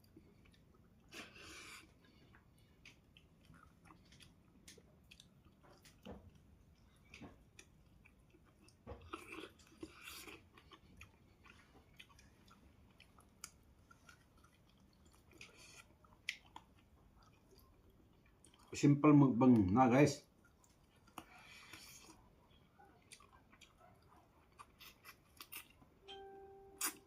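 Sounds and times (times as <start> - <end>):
person chewing and eating: 0.0 - 18.8, 19.5 - 27.0.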